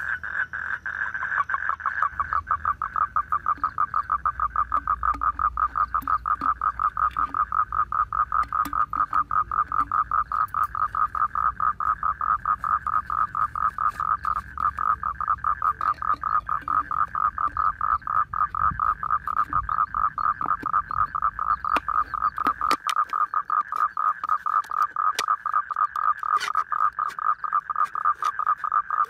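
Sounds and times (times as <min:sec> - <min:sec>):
frog calling: 0:00.0 - 0:29.0.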